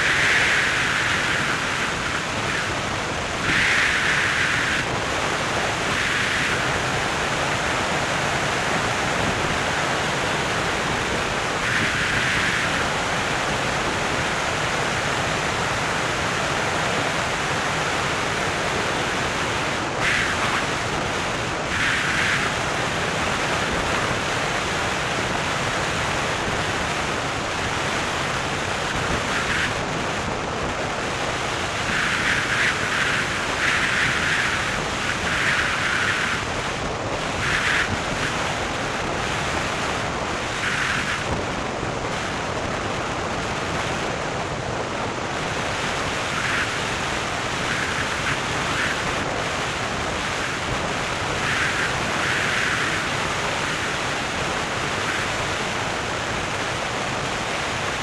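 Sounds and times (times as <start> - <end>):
surging hiss: 0.0 - 58.0
wind and road noise from car: 0.0 - 58.0.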